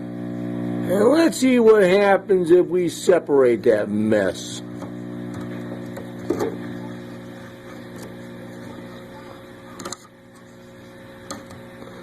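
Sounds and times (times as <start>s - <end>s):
amplifier mains hum: 0.0s - 12.0s.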